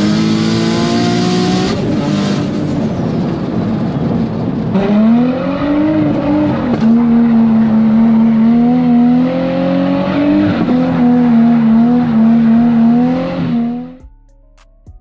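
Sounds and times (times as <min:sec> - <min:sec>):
car engine at high revs: 0:00.0 - 0:14.0.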